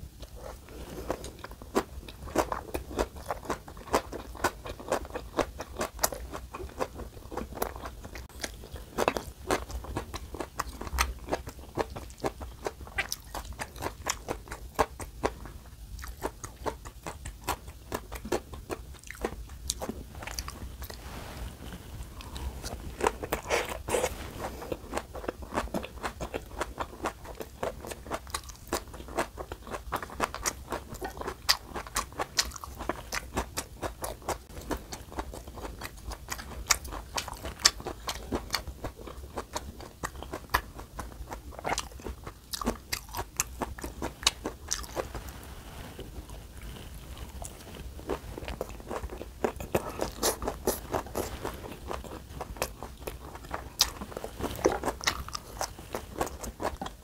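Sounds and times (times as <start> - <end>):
close chewing with crisp crunches: 0.0 - 57.0.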